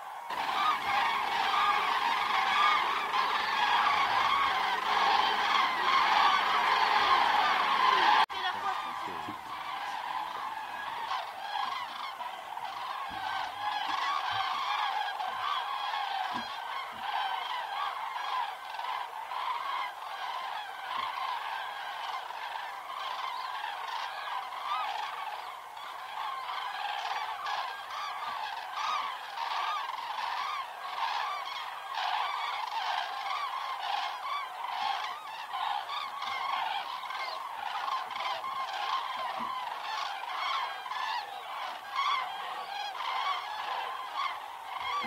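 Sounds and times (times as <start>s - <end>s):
cranes trumpeting calls: 0.0s - 45.0s.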